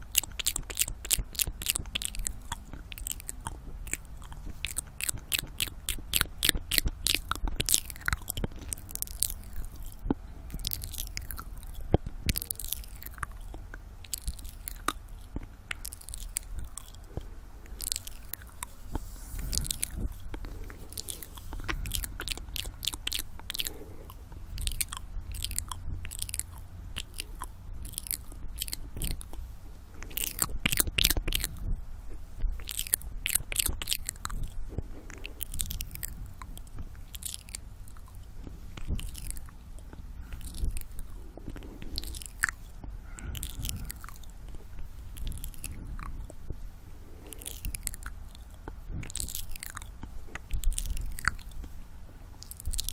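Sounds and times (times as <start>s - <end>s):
wet tongue and lip clicks: 0.0s - 52.9s.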